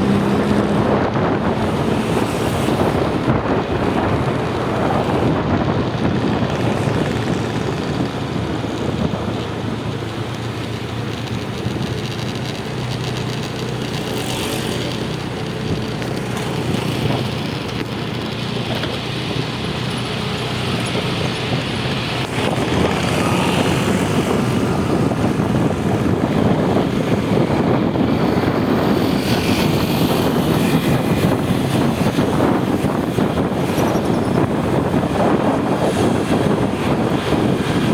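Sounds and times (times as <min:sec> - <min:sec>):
road noise: 0:00.0 - 0:37.9
vehicle engine: 0:00.0 - 0:37.9.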